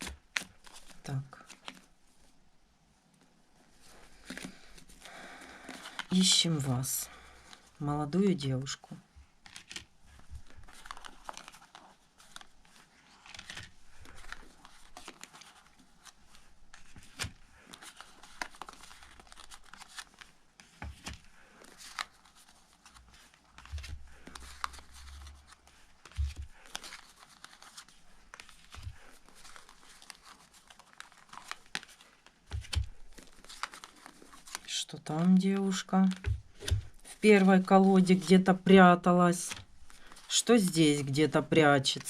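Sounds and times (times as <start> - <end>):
cards being leafed through: 0.0 - 1.9, 3.8 - 6.3, 9.4 - 38.6, 39.4 - 40.4.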